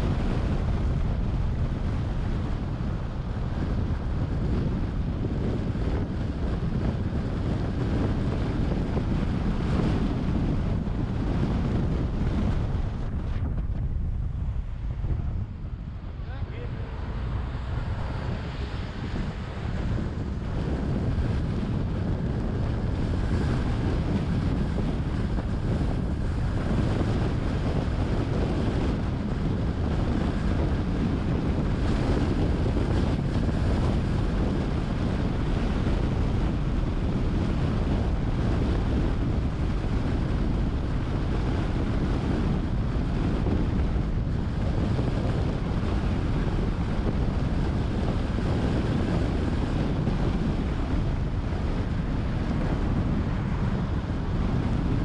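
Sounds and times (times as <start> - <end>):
car road noise: 0.0 - 55.0
wind noise on microphone: 0.0 - 55.0.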